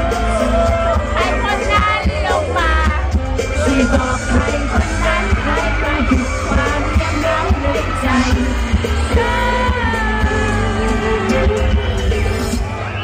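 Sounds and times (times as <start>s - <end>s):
person singing: 0.0s - 12.6s
fans yelling: 0.0s - 13.0s
live pop band over speakers: 0.0s - 13.0s.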